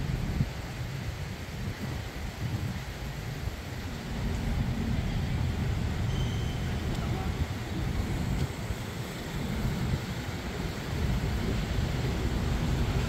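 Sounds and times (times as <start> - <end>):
urban background rumble: 0.0 - 13.0.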